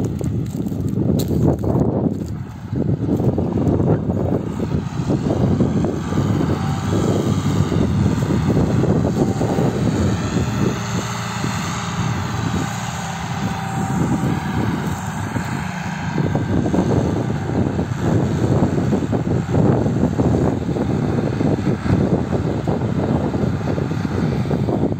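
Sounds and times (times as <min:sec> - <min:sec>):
tractor diesel engine under load: 0:00.0 - 0:24.9.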